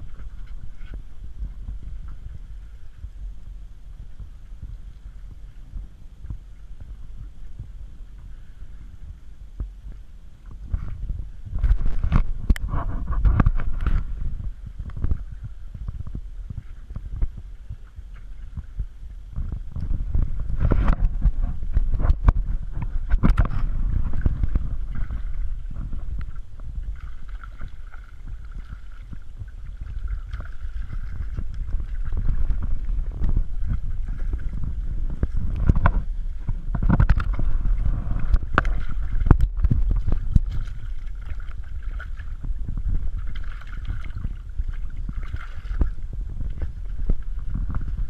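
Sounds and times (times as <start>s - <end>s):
water sloshing against boat hull: 0.0s - 48.0s
wind buffeting microphone: 0.0s - 48.0s.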